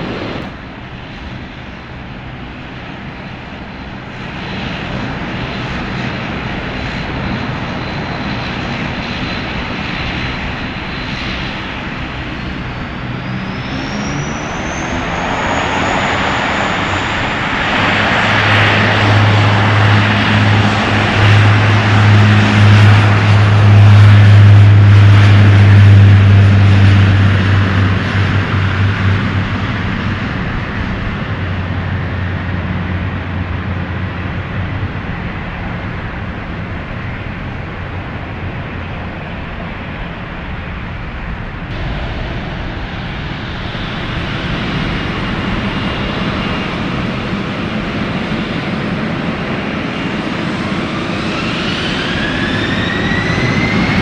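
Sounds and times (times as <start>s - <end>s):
jet engine high whine: 0.0s - 54.0s
low engine drone: 0.0s - 54.0s.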